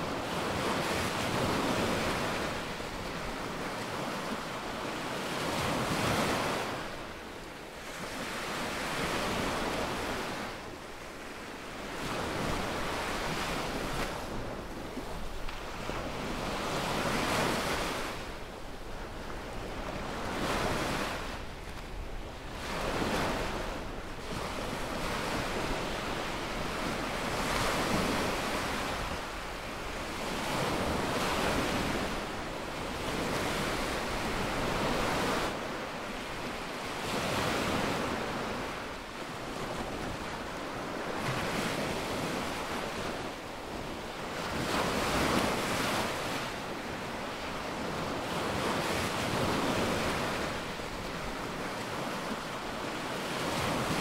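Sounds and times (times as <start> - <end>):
small waves breaking on beach: 0.0 - 54.0.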